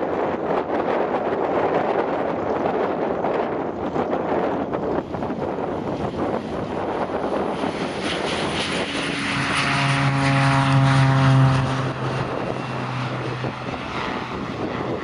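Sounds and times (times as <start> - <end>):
turboprop plane taking off: 0.0 - 15.0.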